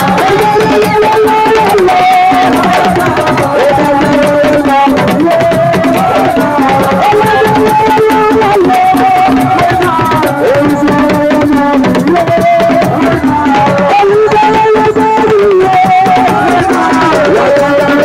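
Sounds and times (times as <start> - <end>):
fast hand-drum percussion: 0.0 - 18.0.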